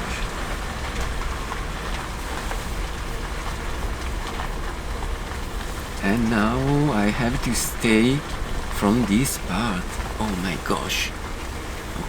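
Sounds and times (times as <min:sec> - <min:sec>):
rain falling on a car: 0:00.0 - 0:12.0.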